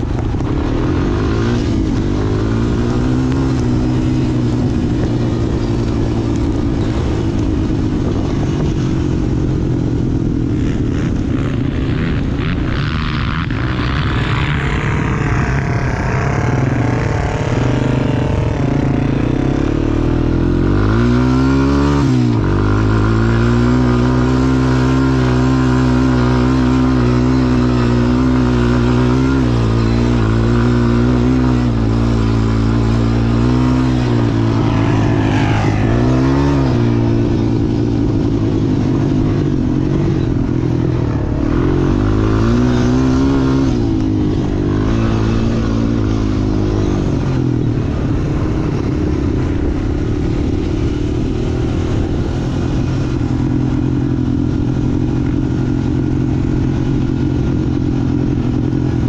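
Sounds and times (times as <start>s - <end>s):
quad bike engine: 0.0s - 59.0s.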